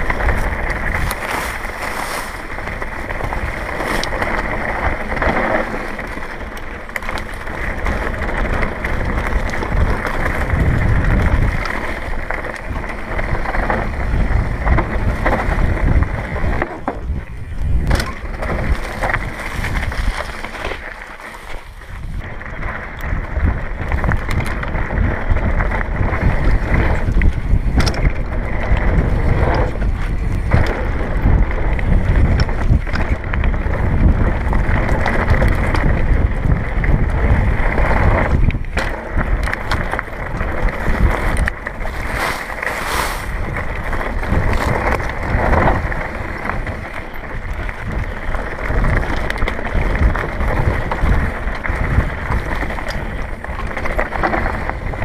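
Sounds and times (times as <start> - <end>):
wind buffeting microphone: 0.0 - 20.9, 21.7 - 55.0
bike rattling over rough trail: 0.0 - 55.0.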